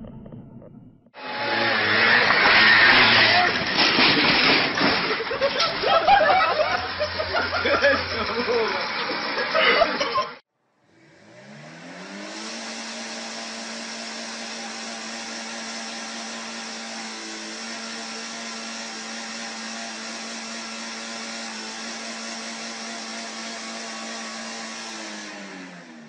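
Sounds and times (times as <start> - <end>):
car engine high revs drone: 1.1 - 26.0.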